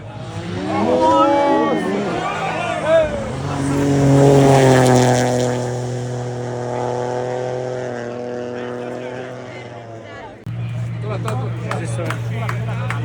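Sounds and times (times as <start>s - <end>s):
rally car engine passing: 0.0s - 13.0s.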